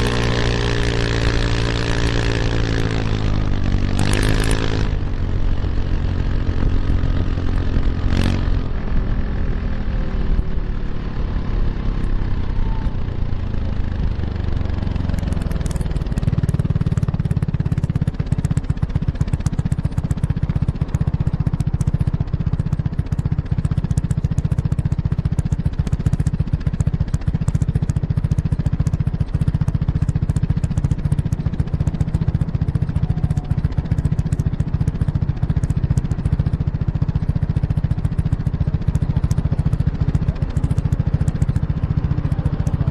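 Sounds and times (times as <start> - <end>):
scooter engine with crackly exhaust: 0.0 - 42.9.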